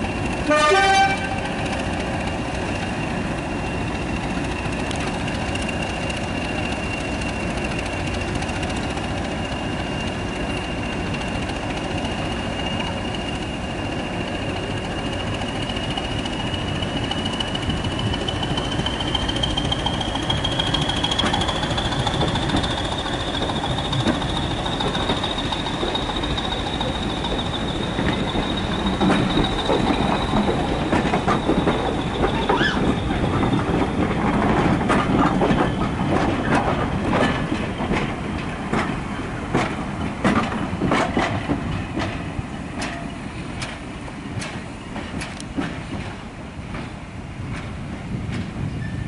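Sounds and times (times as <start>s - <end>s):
train rumble: 0.0s - 49.0s
train wheels clicking over rail joints: 0.0s - 49.0s.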